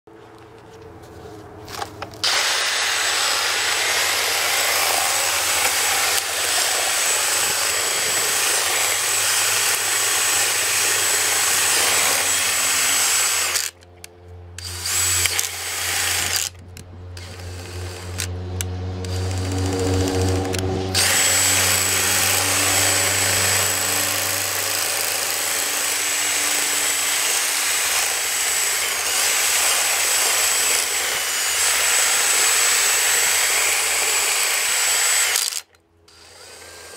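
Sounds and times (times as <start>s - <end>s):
trimmer line cutting grass: 1.7s - 36.9s
power drill whirring: 2.2s - 14.0s, 14.6s - 36.9s.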